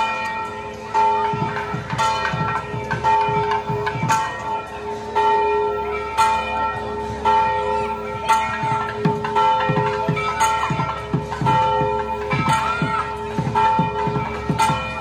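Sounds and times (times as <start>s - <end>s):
temple bell ringing: 0.0s - 15.0s.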